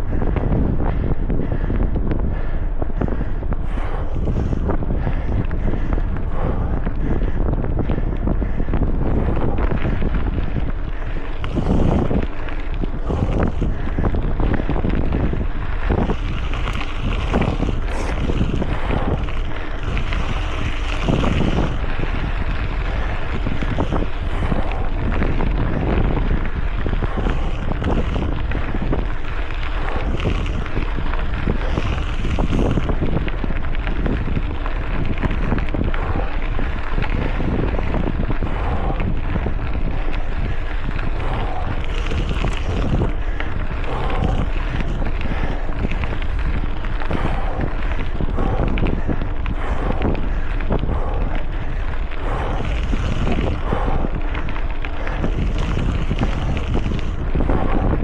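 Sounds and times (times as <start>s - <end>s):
bike knocking and rattling: 0.0s - 58.0s
wind buffeting microphone: 0.0s - 58.0s.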